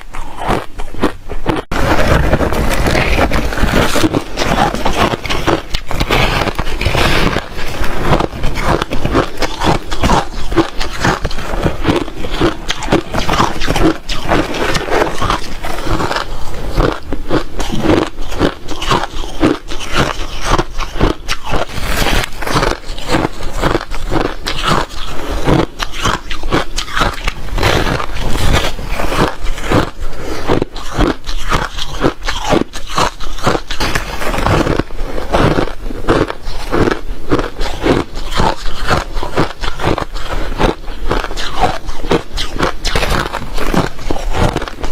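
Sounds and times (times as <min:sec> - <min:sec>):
ice chips crunching in mouth: 0:00.0 - 0:44.9.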